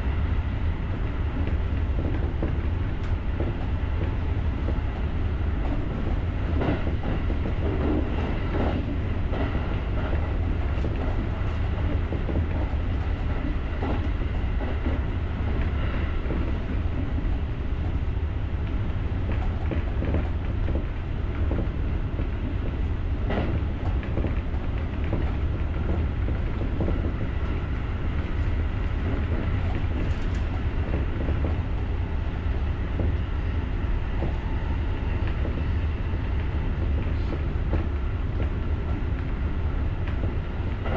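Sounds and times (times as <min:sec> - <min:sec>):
electric train rumble: 0:00.0 - 0:40.9.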